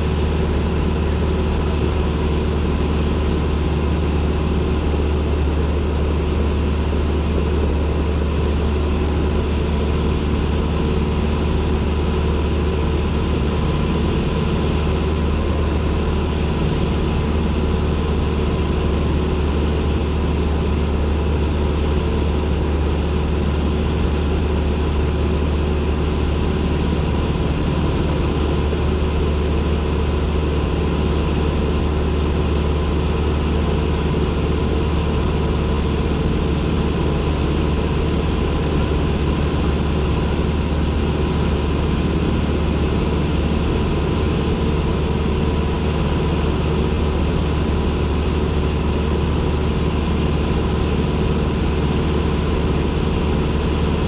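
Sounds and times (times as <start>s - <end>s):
airplane engine and propeller droning: 0.0s - 54.0s.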